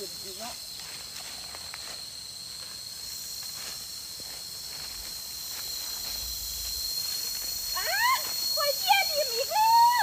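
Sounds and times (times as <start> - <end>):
insects droning: 0.0 - 10.0
footsteps crackling on dry leaves: 0.4 - 9.4.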